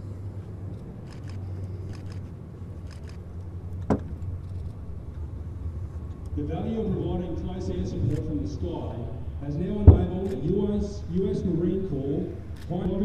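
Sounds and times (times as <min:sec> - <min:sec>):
plane engines droning overhead: 0:00.0 - 0:13.0.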